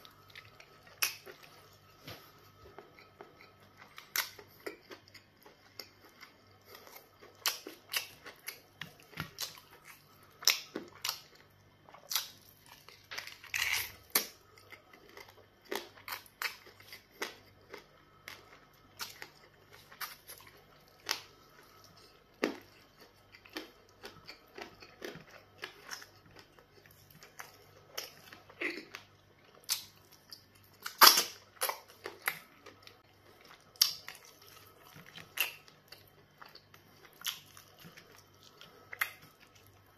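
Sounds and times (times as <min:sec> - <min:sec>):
chewing food: 0:00.0 - 0:39.9.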